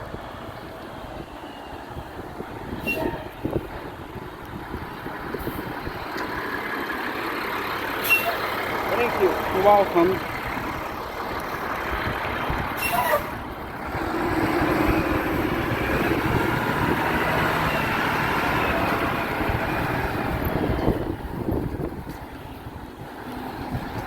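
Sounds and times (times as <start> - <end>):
garbage truck running: 0.0 - 24.0.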